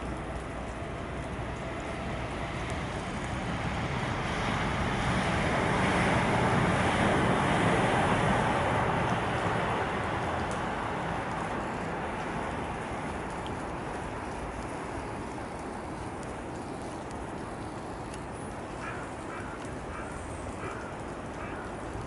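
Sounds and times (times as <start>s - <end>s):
tyres hissing on wet road: 0.0s - 22.0s.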